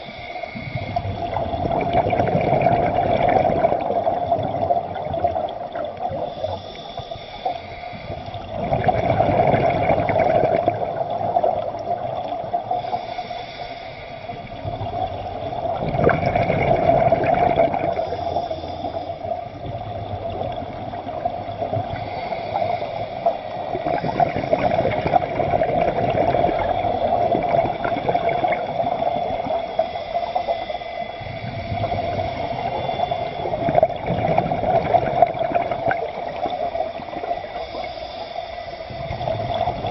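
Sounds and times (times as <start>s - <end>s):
bubbling: 0.0s - 13.6s, 14.3s - 38.2s, 38.8s - 39.9s
steady hum: 0.0s - 39.9s
underwater water gurgling: 0.0s - 39.9s.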